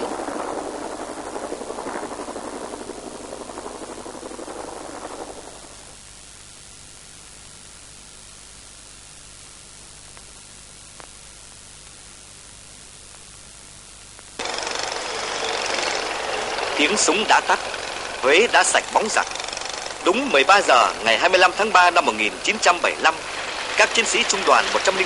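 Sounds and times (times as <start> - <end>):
dense noise: 0.0 - 25.0
film soundtrack hiss: 0.0 - 25.0.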